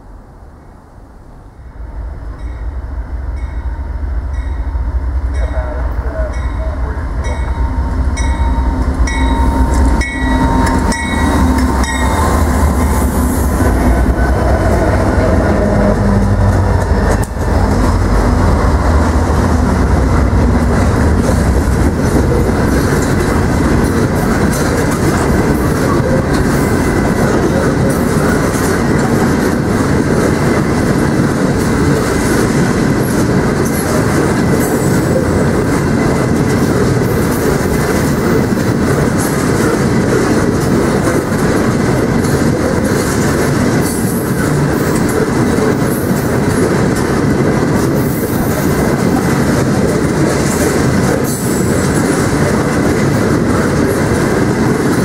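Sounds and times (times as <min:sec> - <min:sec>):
diesel locomotives passing: 0:00.0 - 0:55.0
train wheels clickety-clack: 0:08.2 - 0:55.0.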